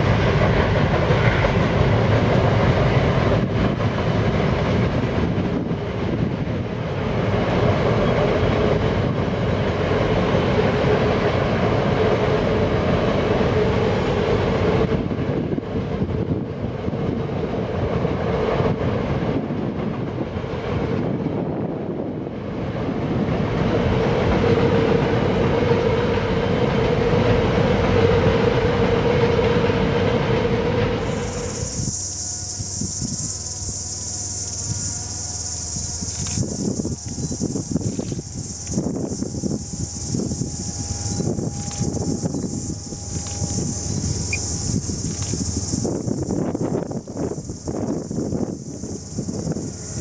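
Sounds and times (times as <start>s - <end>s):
freight train rumbling: 0.0s - 50.0s
train wheel clatter: 0.0s - 50.0s.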